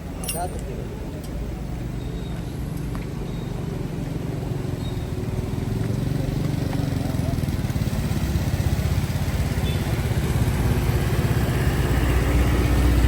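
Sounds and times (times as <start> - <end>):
vehicle engines in slow traffic: 0.0 - 13.0.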